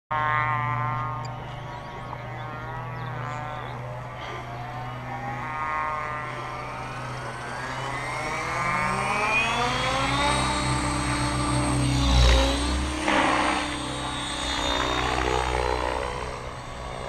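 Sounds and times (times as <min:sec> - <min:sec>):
electric helicopter motor whine: 0:00.1 - 0:17.0.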